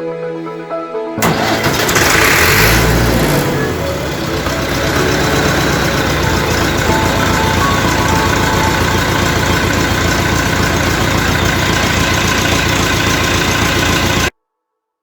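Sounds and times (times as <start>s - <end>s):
diesel tractor engine idling: 1.2s - 14.3s.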